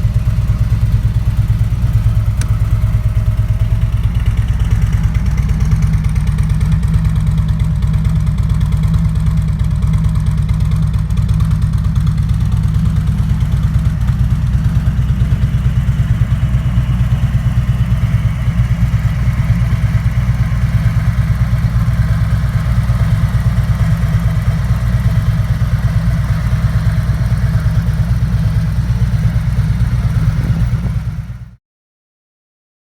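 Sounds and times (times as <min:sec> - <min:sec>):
trike engine idling: 0:00.0 - 0:31.6.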